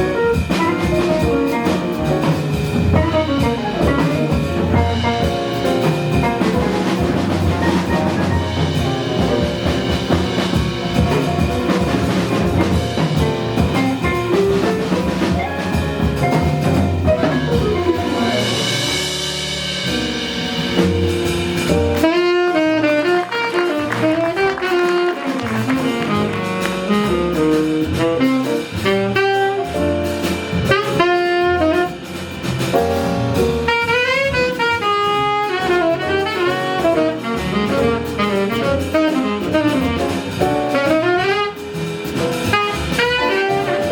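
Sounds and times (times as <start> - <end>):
bass: 0.0 - 43.9
drum kit: 0.0 - 43.9
saxophone lead line: 0.0 - 43.9.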